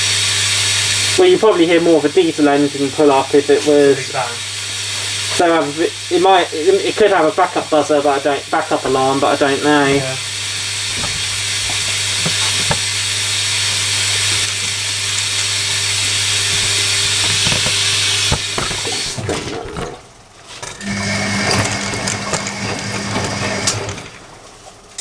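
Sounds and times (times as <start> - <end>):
washing machine motor hum: 0.0 - 25.0
washing machine whine: 0.0 - 25.0.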